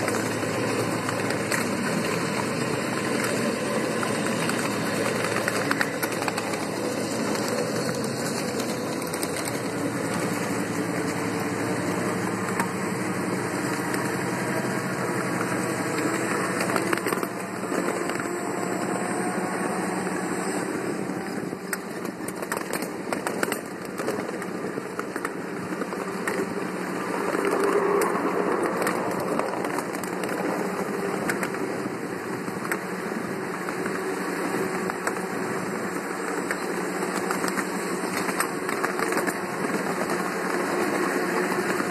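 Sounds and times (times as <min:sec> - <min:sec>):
model train running: 0:00.0 - 0:41.9
wheels clicking over rail joints: 0:00.0 - 0:41.9.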